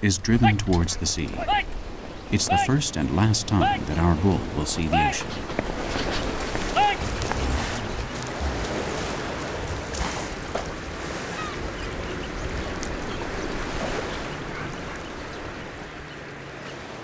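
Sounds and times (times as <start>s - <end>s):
surf washing on sandy beach: 0.0s - 17.0s.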